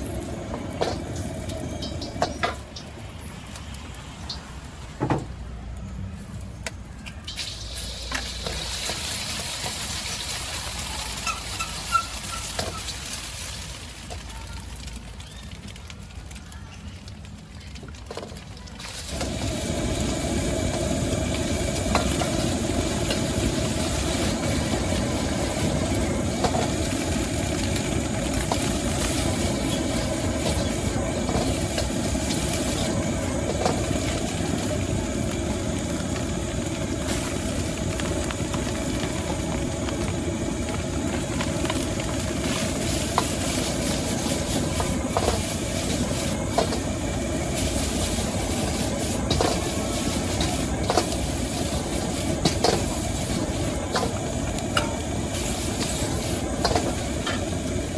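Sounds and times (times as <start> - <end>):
food sizzling in a wok: 0.0 - 5.0, 7.2 - 15.4, 18.8 - 57.9
gas burner roaring: 0.0 - 15.2, 17.3 - 57.9.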